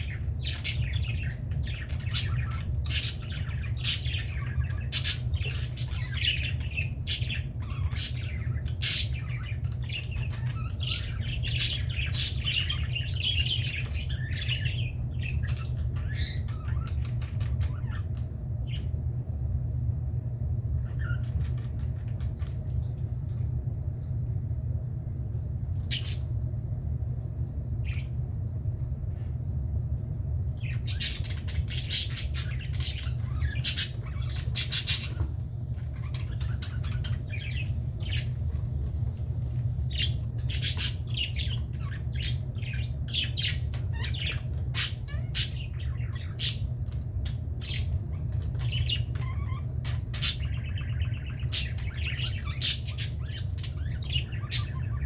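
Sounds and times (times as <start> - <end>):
budgerigars chirping and squawking: 0.0 - 19.0, 20.8 - 22.6, 25.8 - 26.3, 30.5 - 55.0
steady low hum: 0.0 - 55.0.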